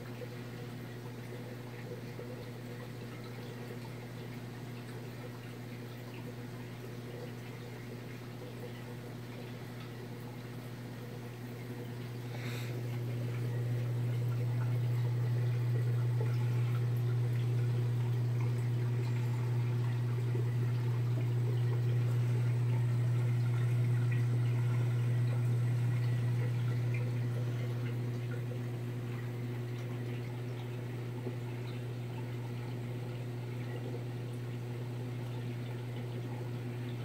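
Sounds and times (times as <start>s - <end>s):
aquarium pump hum: 0.0s - 37.0s
water trickling in filter: 0.0s - 37.0s.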